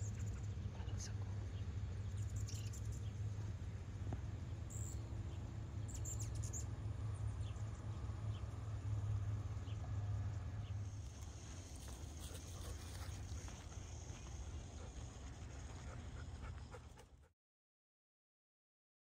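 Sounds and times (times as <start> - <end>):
hummingbirds chipping: 0.0 - 16.2.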